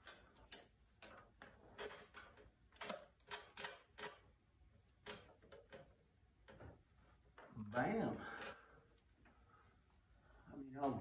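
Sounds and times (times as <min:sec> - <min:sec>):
wire clicking and tapping: 0:00.0 - 0:09.4.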